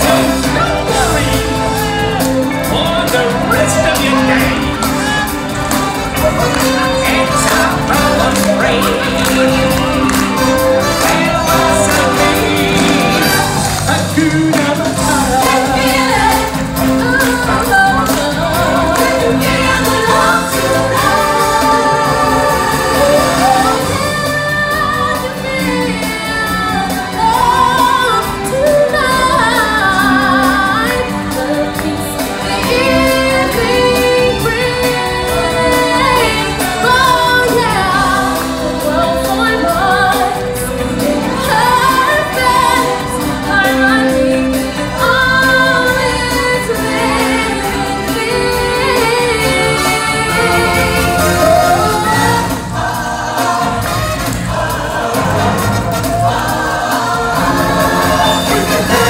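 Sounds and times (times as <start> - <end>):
choir singing: 0.0 - 59.0
loud backing music: 0.0 - 59.0.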